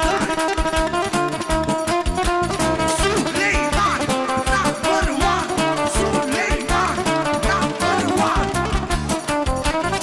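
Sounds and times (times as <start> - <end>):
drum beat: 0.0 - 9.4
bass line: 0.0 - 10.0
guitar: 0.0 - 10.0
lead melody: 0.0 - 10.0.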